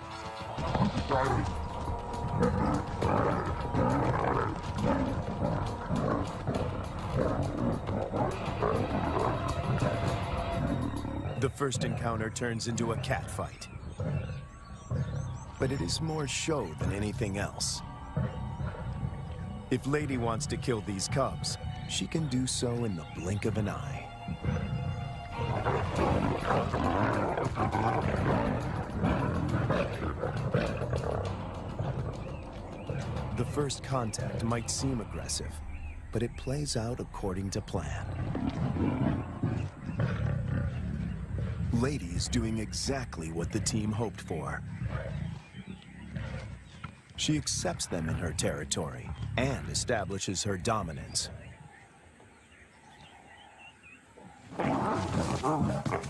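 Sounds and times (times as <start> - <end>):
soft background music: 0.0 - 54.0
lionesses snarling and growling: 0.0 - 56.0.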